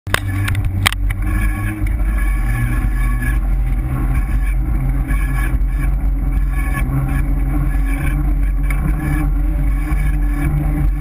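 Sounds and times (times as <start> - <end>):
bike riding rumble: 0.1 - 11.0
brake disc rubbing whine: 0.1 - 11.0.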